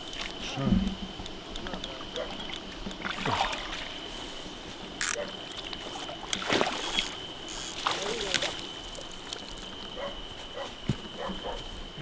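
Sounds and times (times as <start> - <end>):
water splashing and sloshing: 0.0 - 11.2.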